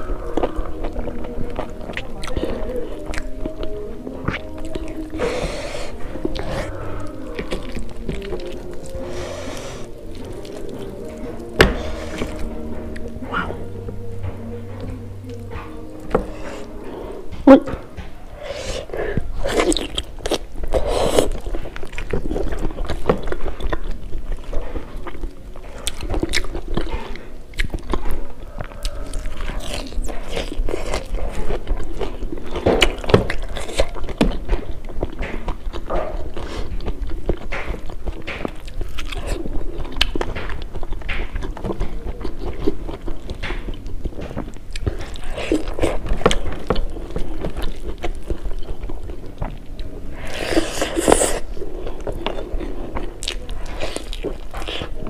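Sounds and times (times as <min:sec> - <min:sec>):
person chewing with mouth smacks: 0:00.0 - 0:55.0.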